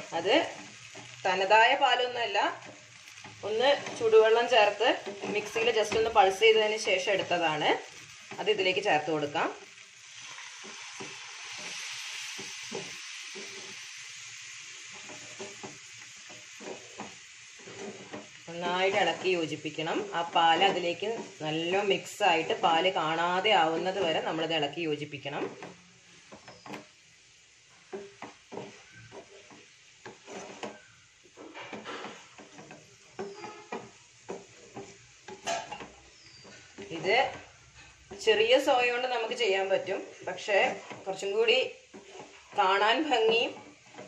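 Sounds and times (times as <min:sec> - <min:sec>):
food sizzling in frying pan: 0:00.0 - 0:44.0
spatula scraping pan: 0:00.0 - 0:44.0.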